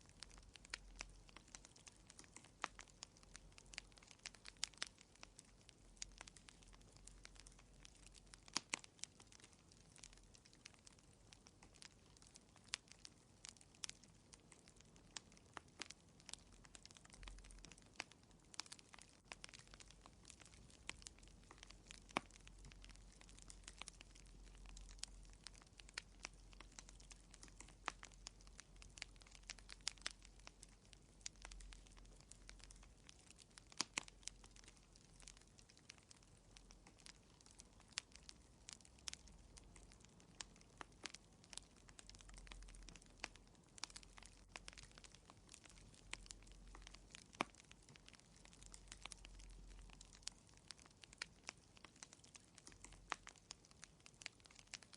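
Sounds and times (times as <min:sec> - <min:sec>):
fire crackling and popping: 0:00.0 - 0:54.9.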